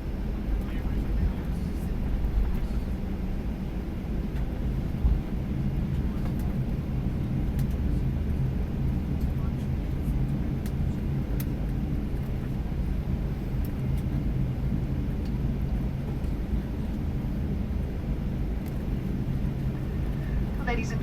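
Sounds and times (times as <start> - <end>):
aircraft cabin low rumble: 0.0 - 21.0.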